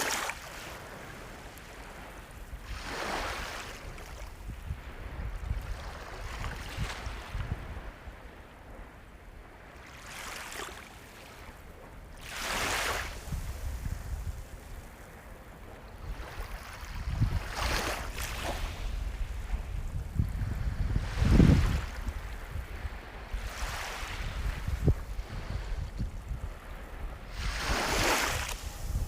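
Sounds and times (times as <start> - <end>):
low rumble of surf: 0.0 - 29.0
waves breaking on shore: 0.0 - 29.0.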